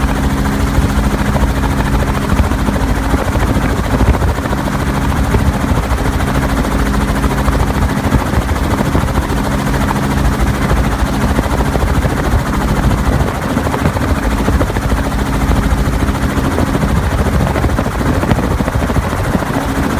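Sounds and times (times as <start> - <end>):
helicopter in flight: 0.0 - 19.9.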